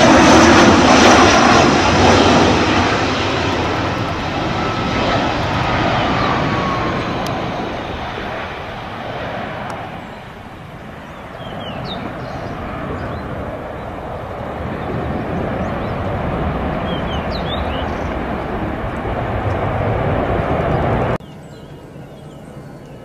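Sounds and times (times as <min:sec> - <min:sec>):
jet engines roaring: 0:00.0 - 0:21.2.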